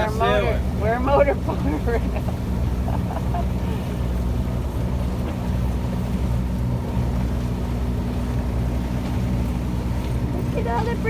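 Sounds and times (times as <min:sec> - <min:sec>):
boat engine low hum: 0:00.0 - 0:11.0.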